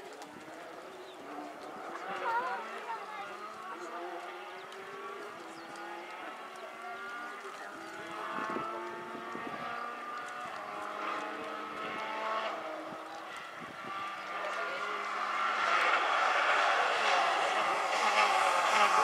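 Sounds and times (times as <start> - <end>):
distant rally car engine revving: 0.0 - 19.0.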